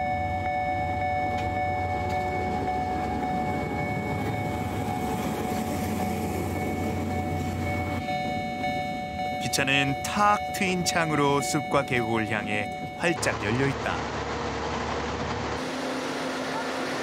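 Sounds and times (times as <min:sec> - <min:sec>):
constant high hum: 0:00.0 - 0:17.0
diesel train low rumble: 0:00.0 - 0:17.0.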